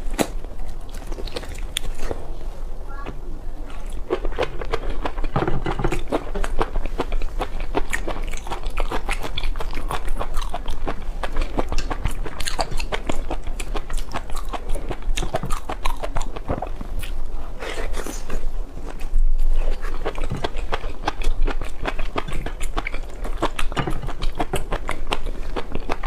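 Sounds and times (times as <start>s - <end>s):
person chewing food: 0.0s - 2.4s, 3.0s - 26.0s.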